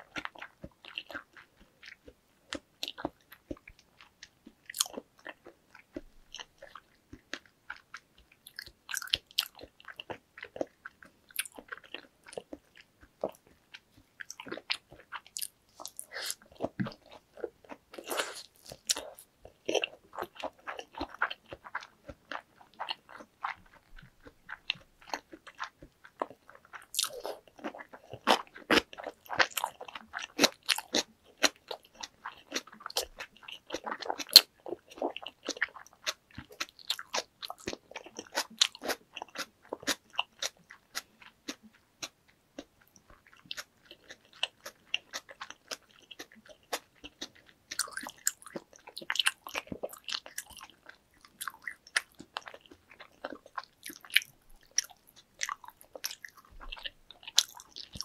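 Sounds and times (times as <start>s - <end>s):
wet chewing mouth clicks: 0.0s - 58.0s.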